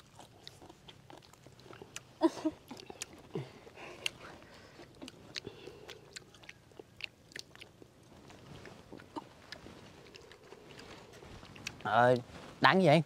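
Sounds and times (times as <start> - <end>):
person chewing leaves: 0.0 - 12.3.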